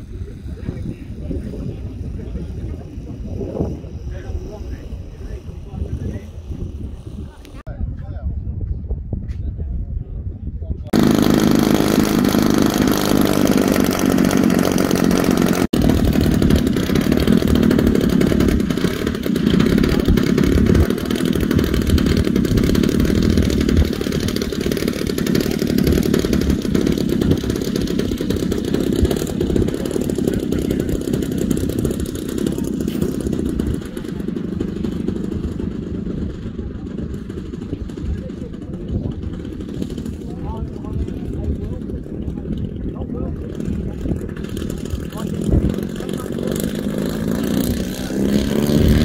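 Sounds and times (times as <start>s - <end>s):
model plane engine running: 0.0s - 7.6s, 10.9s - 49.0s.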